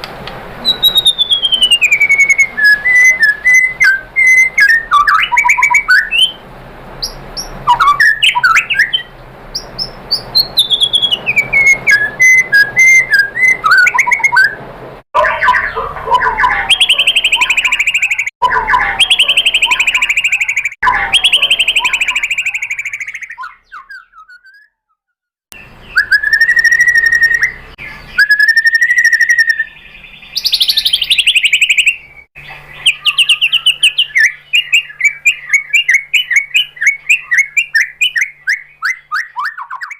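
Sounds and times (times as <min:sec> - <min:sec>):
bird singing whistled phrases: 0:00.6 - 0:06.4, 0:07.0 - 0:14.6, 0:15.2 - 0:24.9, 0:25.6 - 0:39.9.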